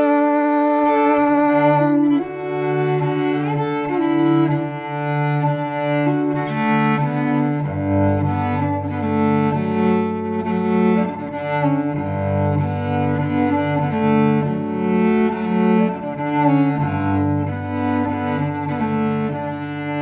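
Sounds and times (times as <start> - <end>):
bowed cello: 0.0 - 20.0.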